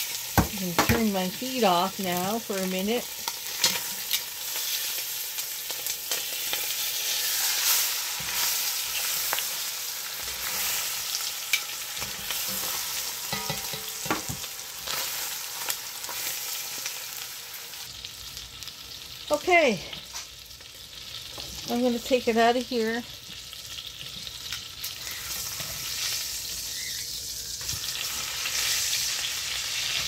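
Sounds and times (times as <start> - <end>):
meat sizzling in hot fat: 0.0 - 30.0.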